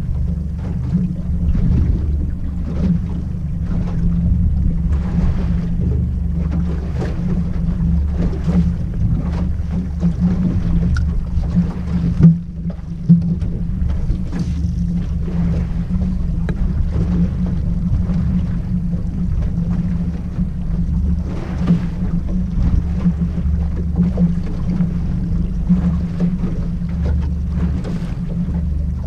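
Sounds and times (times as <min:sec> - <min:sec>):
outboard motor running: 0:00.0 - 0:29.0
water splashing: 0:00.0 - 0:29.0
wind: 0:00.0 - 0:29.0.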